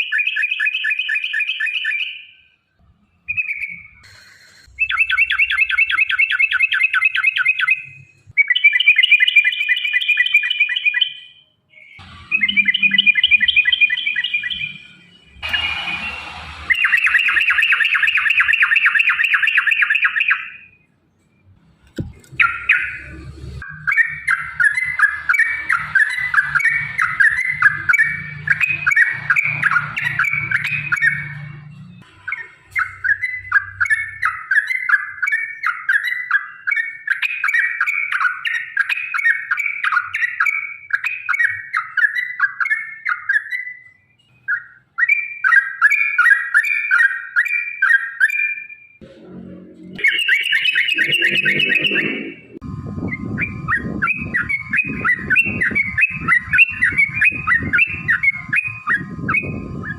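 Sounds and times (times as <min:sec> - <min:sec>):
bulbul singing rolling song: 0:00.0 - 0:59.9.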